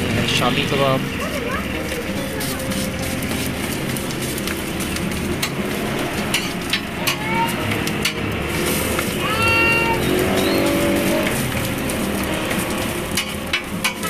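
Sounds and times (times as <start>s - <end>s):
food sizzling in oil: 0.0s - 14.0s
metal spatula scraping griddle: 1.8s - 14.0s.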